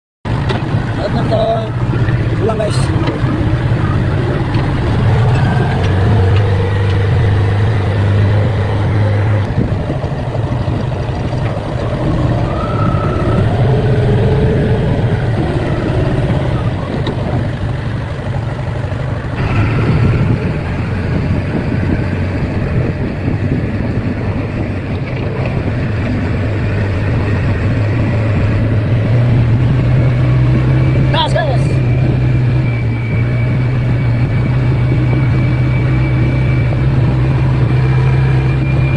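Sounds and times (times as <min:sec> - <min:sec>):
diesel engine droning: 0:00.3 - 0:38.9.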